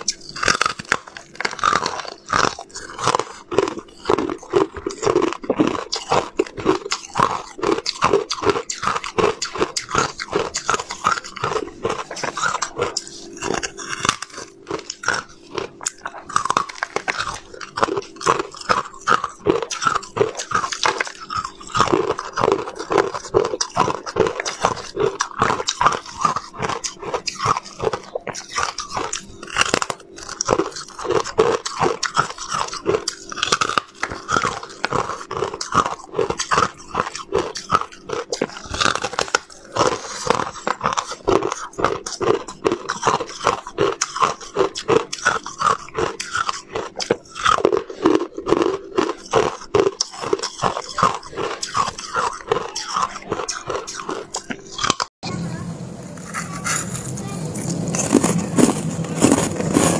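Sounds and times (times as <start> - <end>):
ice crunching while chewed: 0.0 - 55.1, 56.1 - 59.9.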